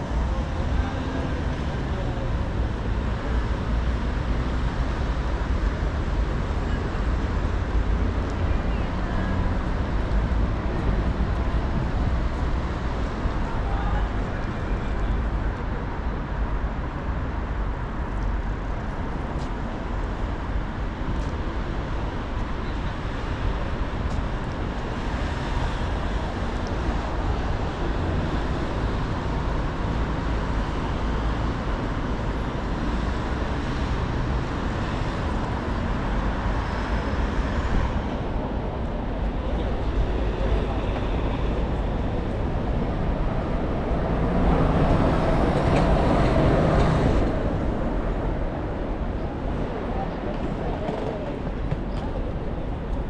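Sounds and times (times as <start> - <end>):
vehicle rumble: 0.0 - 53.0.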